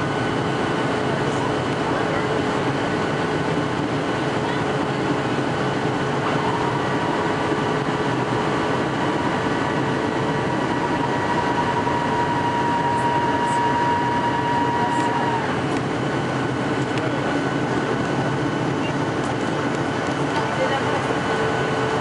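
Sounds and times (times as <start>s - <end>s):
airliner cabin engine and air rush: 0.0s - 22.0s
thin steady whine: 0.0s - 22.0s.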